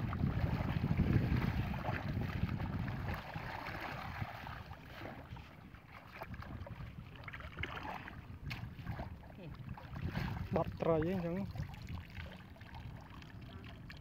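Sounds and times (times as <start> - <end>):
muddy water sloshing: 0.0 - 14.0
wind buffeting microphone: 0.0 - 14.0.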